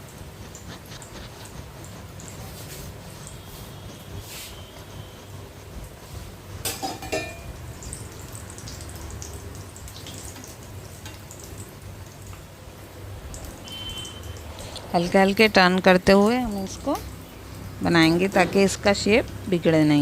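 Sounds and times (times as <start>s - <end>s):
deep-frying sizzle: 0.0s - 20.0s.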